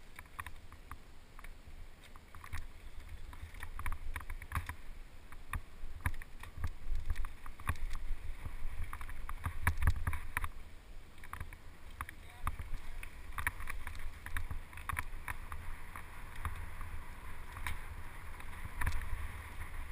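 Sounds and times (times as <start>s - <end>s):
bike rattling over rocks: 2.0s - 19.9s
wind rumble on microphone: 2.2s - 19.9s.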